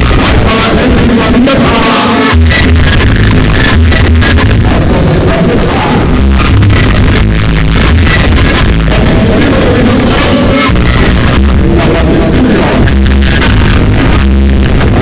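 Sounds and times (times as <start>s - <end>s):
loud dance music: 0.0s - 15.0s.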